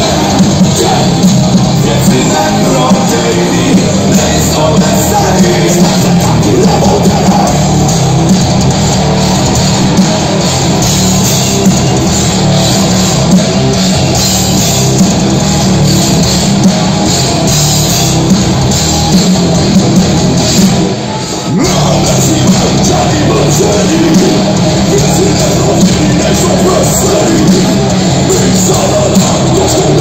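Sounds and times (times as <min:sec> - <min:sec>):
distorted electric guitars: 0:00.0 - 0:30.0
steady drum beat: 0:00.0 - 0:30.0.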